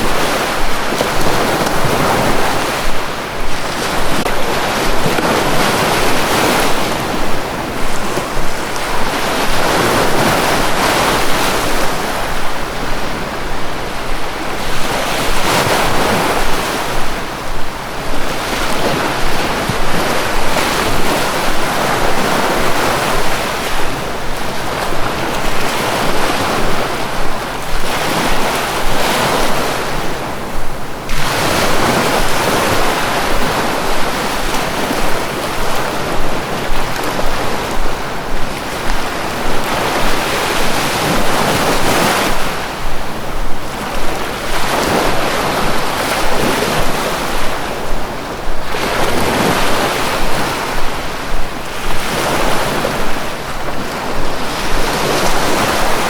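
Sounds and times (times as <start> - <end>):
sea waves washing: 0.0 - 56.0.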